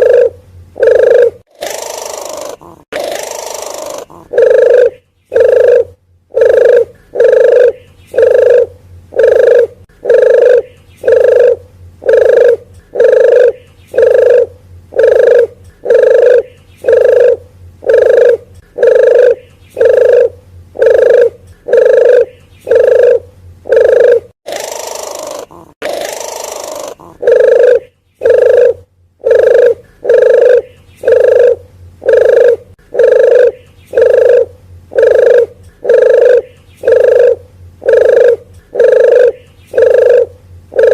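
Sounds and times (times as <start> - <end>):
dove call short coo notes: 0.0 - 40.9.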